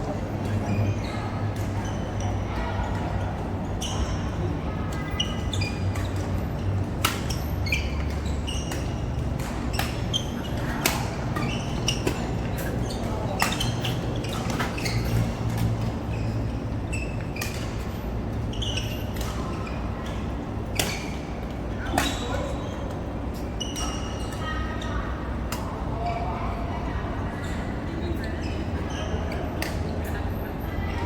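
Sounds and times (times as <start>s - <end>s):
shoes squeaking on court floor: 0.0s - 26.6s, 27.4s - 30.5s.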